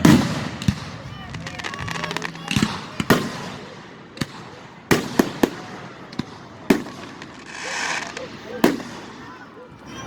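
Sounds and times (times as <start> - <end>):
fireworks booming: 0.0 - 9.4.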